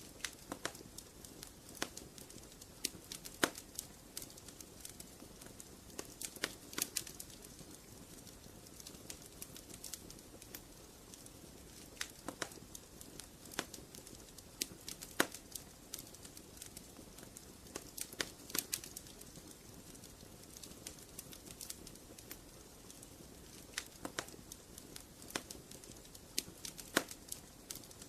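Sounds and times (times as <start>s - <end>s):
wood fire popping and snapping: 0.0s - 28.0s.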